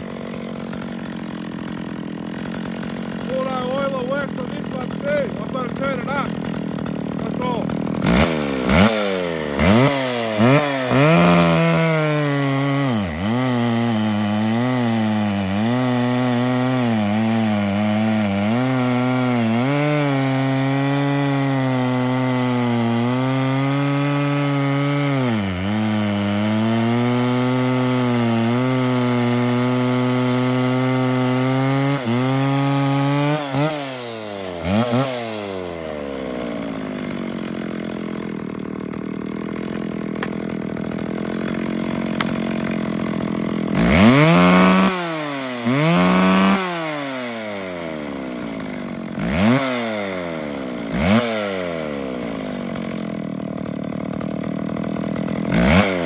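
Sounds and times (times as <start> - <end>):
chainsaw revving and cutting log: 0.0 - 56.0.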